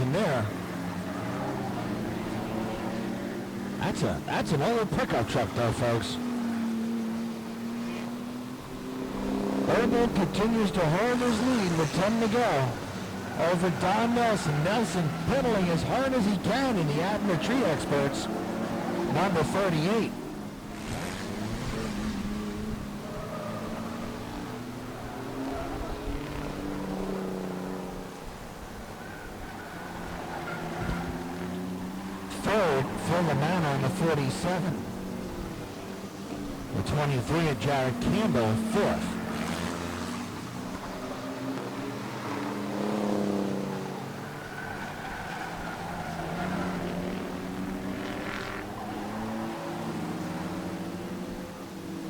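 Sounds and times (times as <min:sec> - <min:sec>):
racing truck engines passing: 0:00.0 - 0:52.0.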